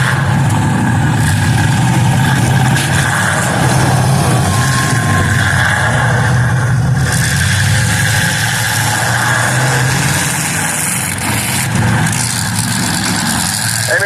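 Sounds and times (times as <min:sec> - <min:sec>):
loud car engines running: 0:00.0 - 0:14.0.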